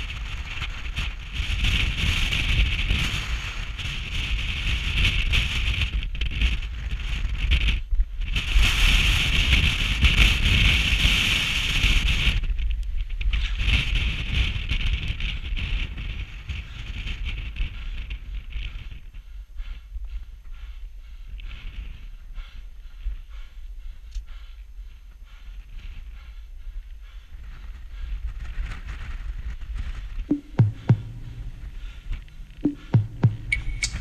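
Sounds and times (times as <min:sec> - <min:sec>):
wind buffeting microphone: 0:00.0 - 0:23.6, 0:25.5 - 0:34.0.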